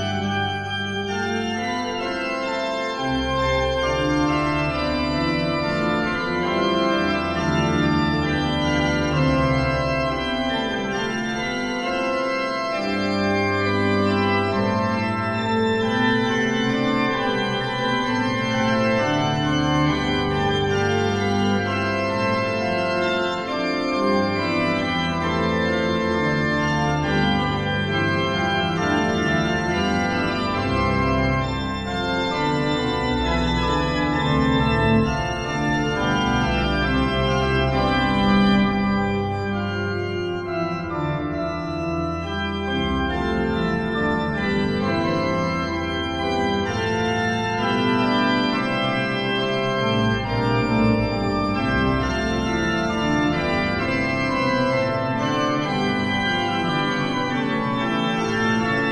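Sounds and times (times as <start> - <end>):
pipe organ music: 0.0 - 58.9.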